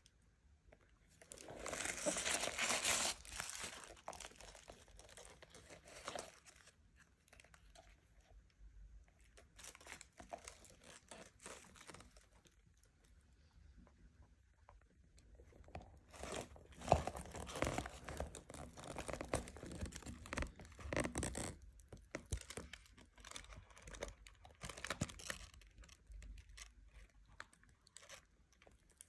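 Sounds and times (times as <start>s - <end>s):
paper and plastic crinkling: 1.2s - 8.1s, 9.2s - 12.9s, 15.4s - 29.0s.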